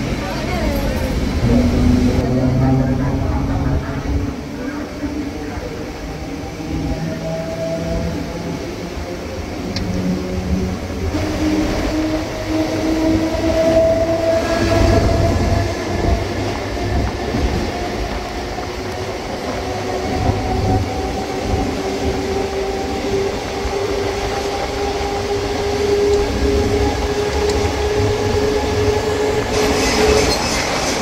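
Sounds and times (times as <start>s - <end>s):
wheels rumbling on track: 0.0s - 31.0s.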